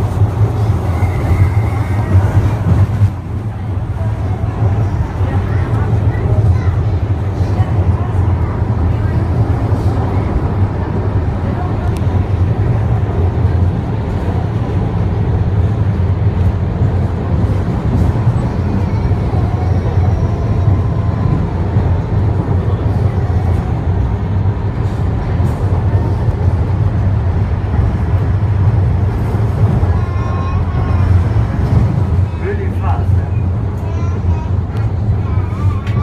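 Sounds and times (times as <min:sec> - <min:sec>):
suspended rail car rumble: 0:00.0 - 0:36.0.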